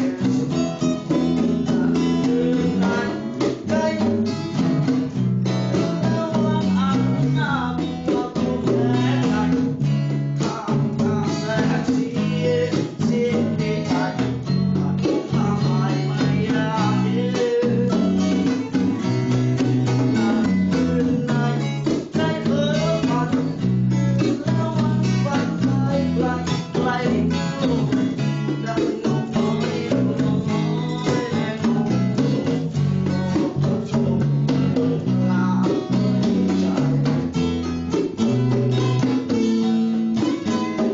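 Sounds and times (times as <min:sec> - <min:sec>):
person singing: 0:00.0 - 0:37.4, 0:38.0 - 0:40.9
guitar song with bass and beat: 0:00.0 - 0:40.9.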